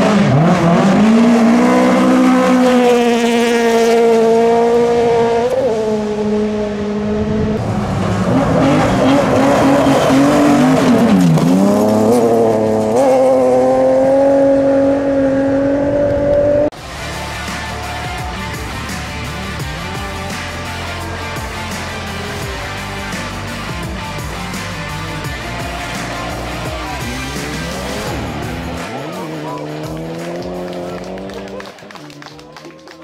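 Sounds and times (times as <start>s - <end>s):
rally car engine high revs: 0.0s - 31.7s.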